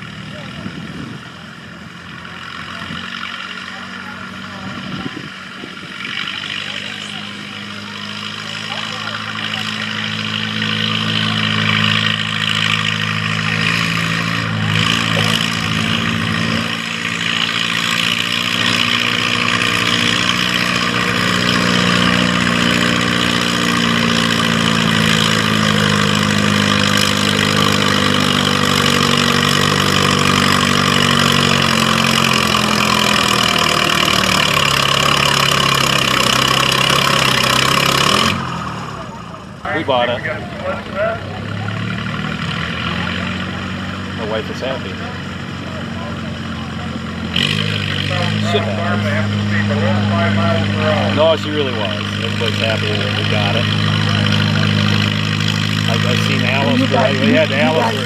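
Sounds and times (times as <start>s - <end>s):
tractor diesel engine running hard: 0.0s - 58.0s.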